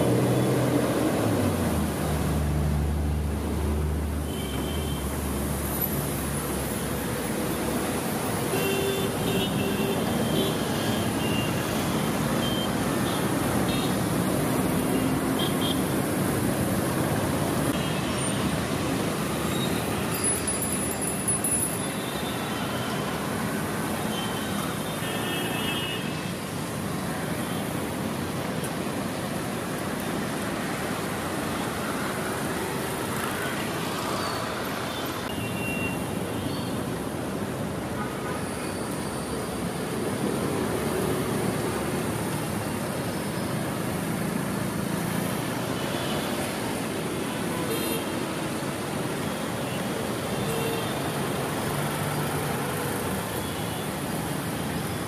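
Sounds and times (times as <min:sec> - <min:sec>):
traffic passing: 0:00.0 - 0:55.0.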